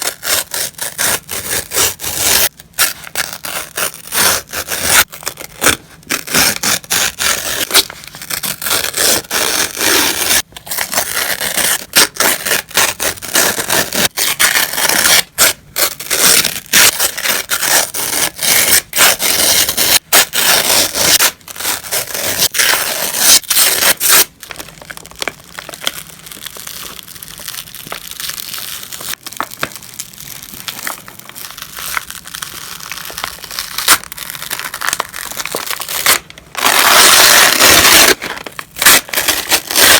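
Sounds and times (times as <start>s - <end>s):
paper tearing: 0.0s - 24.4s, 31.4s - 39.9s.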